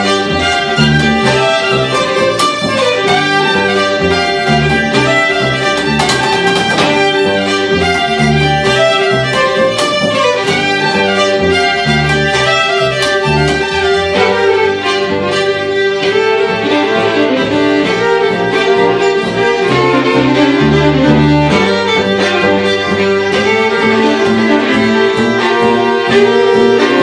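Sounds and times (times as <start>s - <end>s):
fiddles playing folk tune: 0.0s - 27.0s
plucked upright bass: 0.0s - 27.0s.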